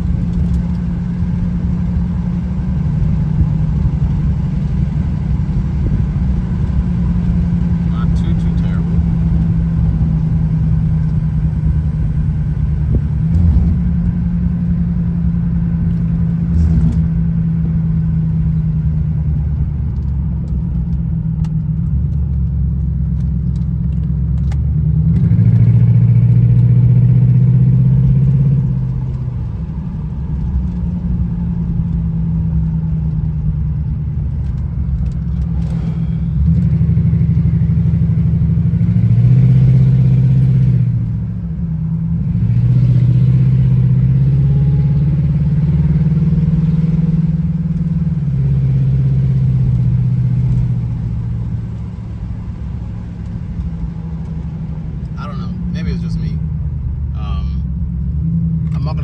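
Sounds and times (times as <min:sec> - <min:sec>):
car engine and road hum: 0:00.0 - 0:59.0.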